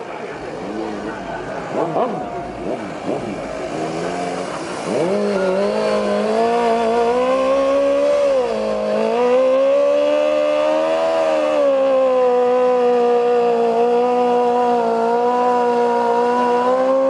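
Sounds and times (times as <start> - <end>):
car engine revving hard: 0.6 - 17.0.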